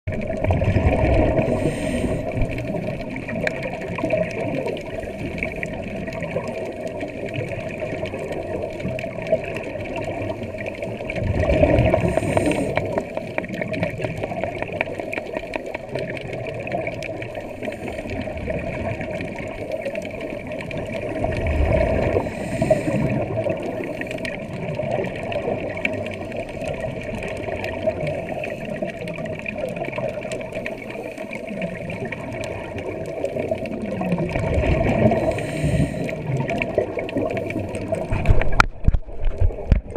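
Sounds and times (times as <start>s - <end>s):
diver's regulator bubbles: 0.0s - 39.9s
muffled underwater hum: 0.1s - 39.9s.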